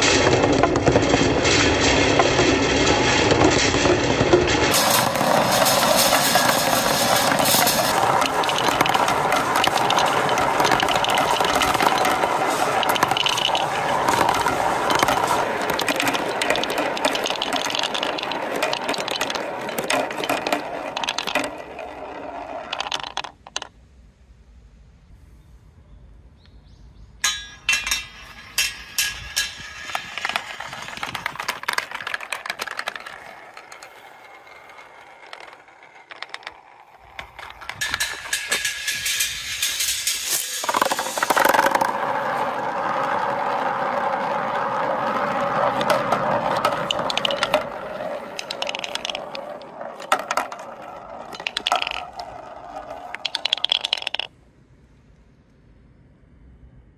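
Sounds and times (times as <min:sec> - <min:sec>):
balls clacking into wooden bowl: 0:00.0 - 0:23.8, 0:27.2 - 0:54.3
balls rattling in metal channel: 0:00.0 - 0:23.8, 0:27.2 - 0:54.3
balls rolling rumble: 0:00.0 - 0:24.2, 0:27.4 - 0:54.7.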